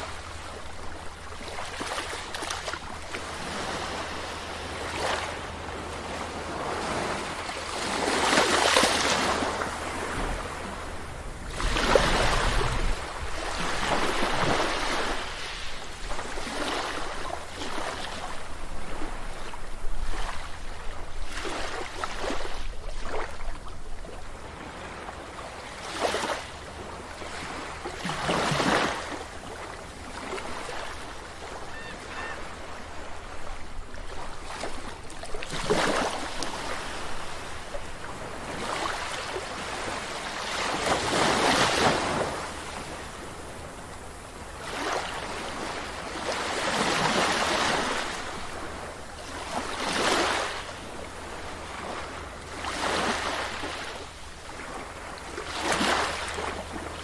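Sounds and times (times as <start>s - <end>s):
sea waves breaking on a beach: 0.0s - 57.0s.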